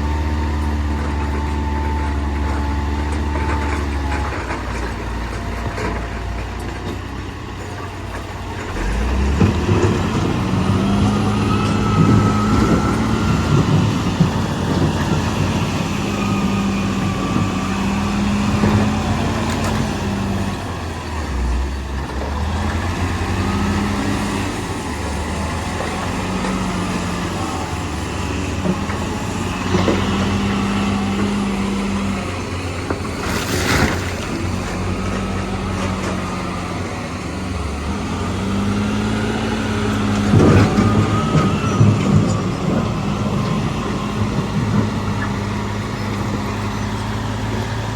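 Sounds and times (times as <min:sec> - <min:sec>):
heavy diesel engine revving: 0:00.0 - 0:47.9.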